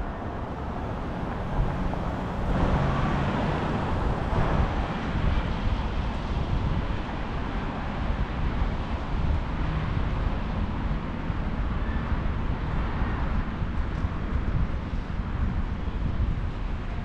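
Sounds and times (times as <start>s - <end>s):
low rumble of street traffic: 0.0s - 17.0s
wind rushing over microphone: 0.0s - 17.0s.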